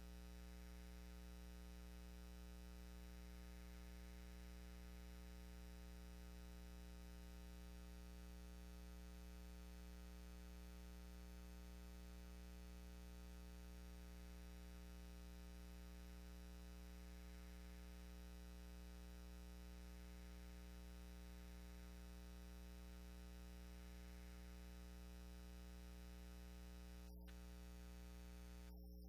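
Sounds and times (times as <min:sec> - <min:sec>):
low hum with faint hiss: 0:00.0 - 0:29.0.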